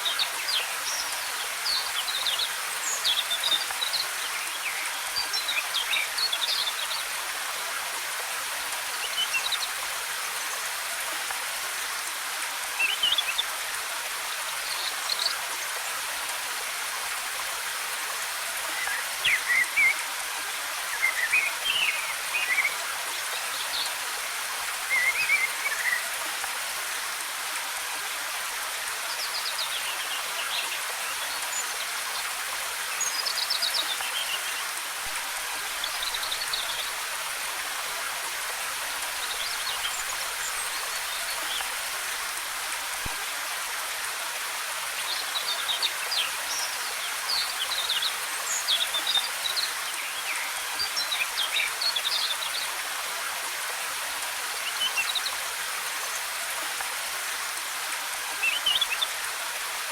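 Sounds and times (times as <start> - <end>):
waterfall hissing: 0.0 - 59.9.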